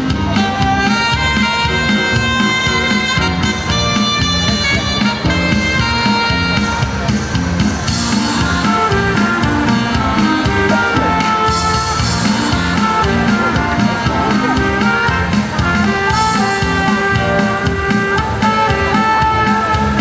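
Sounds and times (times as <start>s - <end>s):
music with steady drum beat: 0.0s - 20.0s.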